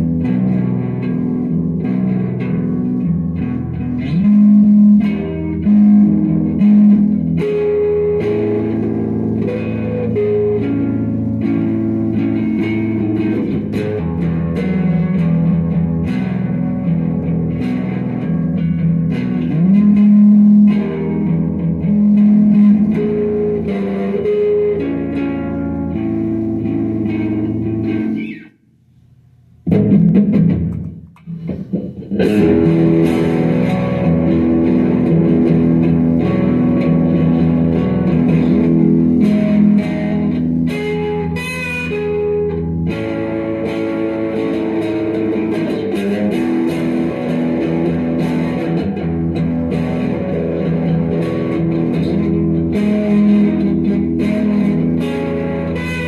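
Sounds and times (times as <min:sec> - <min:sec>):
guitar playing a song: 0:00.0 - 0:56.0.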